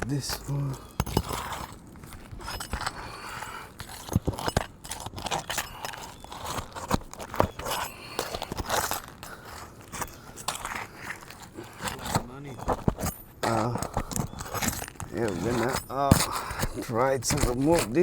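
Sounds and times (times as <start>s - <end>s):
roofing tool scraping shingles: 0.0s - 18.0s.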